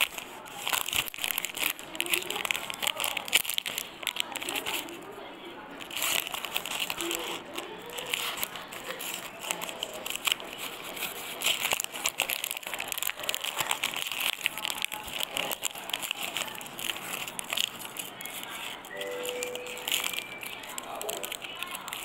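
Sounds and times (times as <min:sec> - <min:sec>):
wrappers crinkling and rustling: 0:00.0 - 0:22.0.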